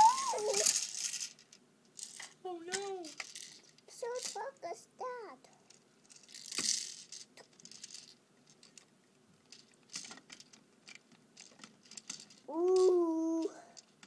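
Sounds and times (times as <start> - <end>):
toy truck clicks and scratches: 0.0 - 4.6, 5.7 - 8.9, 9.5 - 14.0.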